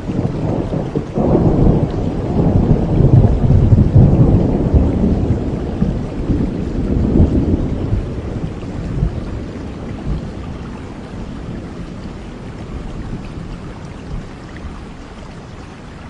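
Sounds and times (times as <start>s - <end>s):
low rumble of thunder: 0.0s - 15.6s
steady rain falling: 0.0s - 16.0s.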